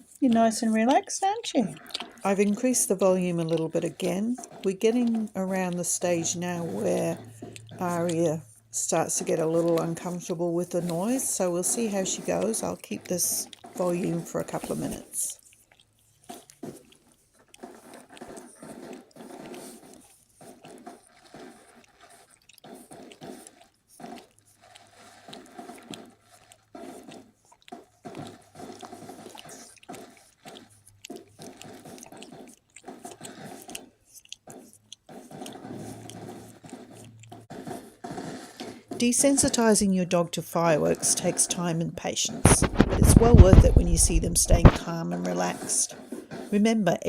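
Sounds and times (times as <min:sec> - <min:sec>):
dog chewing and gnawing: 0:00.0 - 0:47.0.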